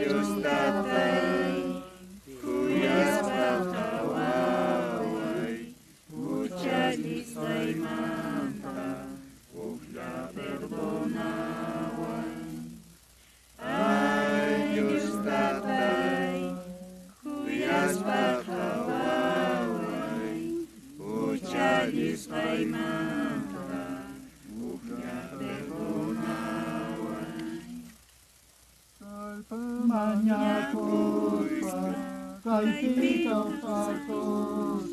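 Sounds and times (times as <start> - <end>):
congregation singing a hymn: 0.0 - 12.9, 13.6 - 28.0, 29.0 - 34.9.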